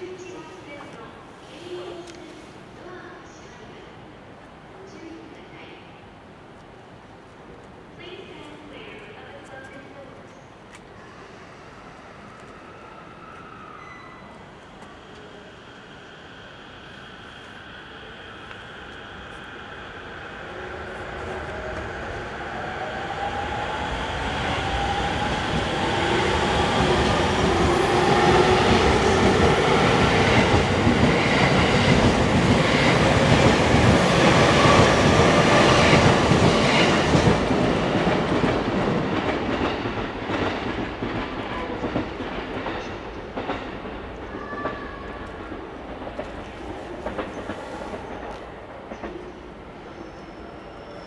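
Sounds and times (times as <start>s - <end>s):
wheel and rail noise: 6.4s - 51.0s.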